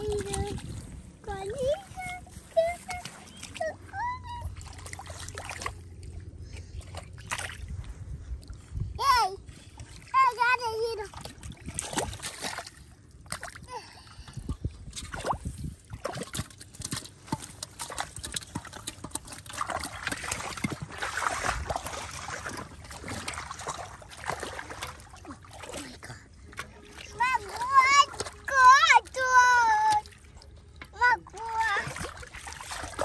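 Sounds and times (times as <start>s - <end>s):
muddy water splashing: 0.0s - 33.0s.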